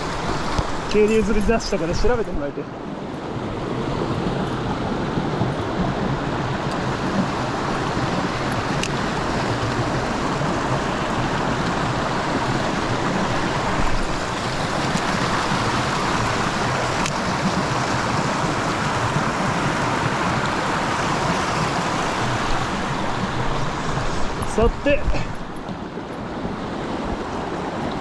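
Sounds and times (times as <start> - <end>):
stream water running: 0.0 - 28.0.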